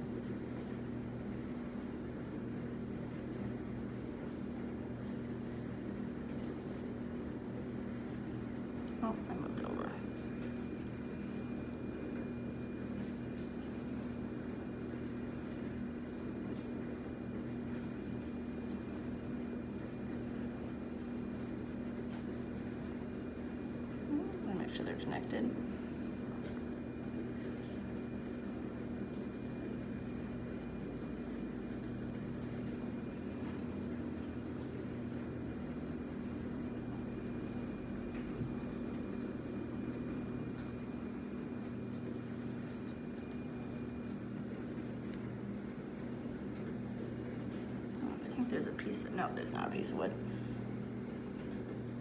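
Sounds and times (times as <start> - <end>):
steady low mechanical hum: 0.0 - 52.0.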